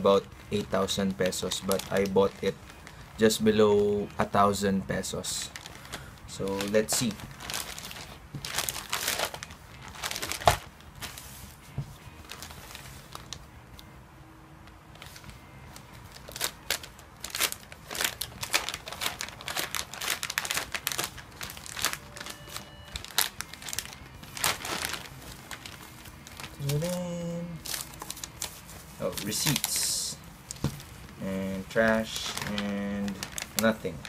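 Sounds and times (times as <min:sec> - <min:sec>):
plastic bag crinkling: 0:00.0 - 0:11.5, 0:12.1 - 0:13.4, 0:14.9 - 0:34.0
plastic bag tearing: 0:00.5 - 0:03.4, 0:05.4 - 0:11.2, 0:12.1 - 0:13.4, 0:16.0 - 0:27.0, 0:27.6 - 0:34.0.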